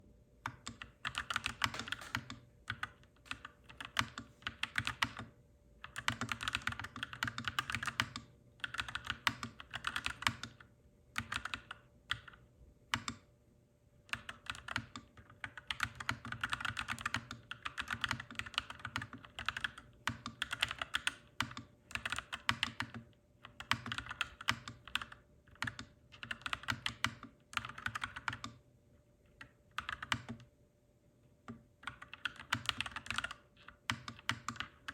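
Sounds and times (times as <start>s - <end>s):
mechanical keyboard typing: 0.4s - 13.3s, 14.1s - 28.6s, 29.4s - 30.5s, 31.4s - 34.9s.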